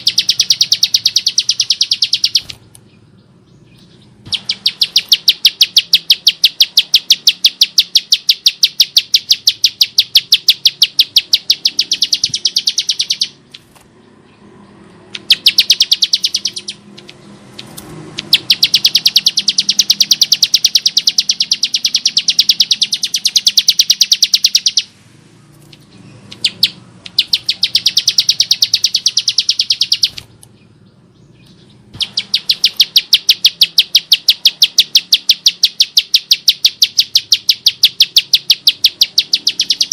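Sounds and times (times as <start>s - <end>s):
bird singing rapid clicking rattle: 0.0s - 3.0s, 3.6s - 13.9s, 14.8s - 24.9s, 25.5s - 39.9s.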